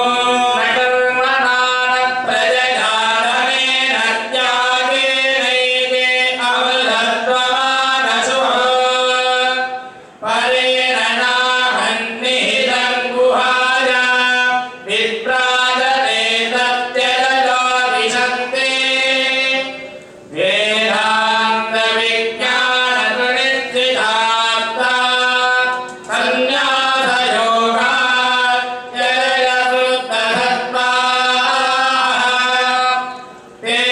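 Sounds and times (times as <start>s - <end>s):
voices singing a hymn: 0.0s - 33.9s.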